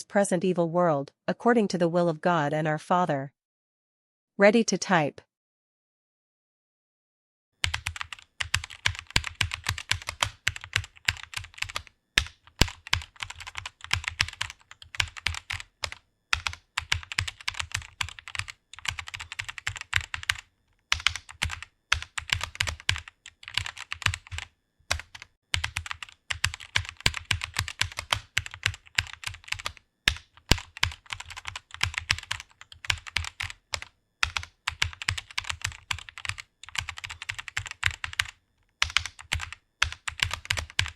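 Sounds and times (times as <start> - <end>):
fast typing on keyboard: 7.6 - 40.9.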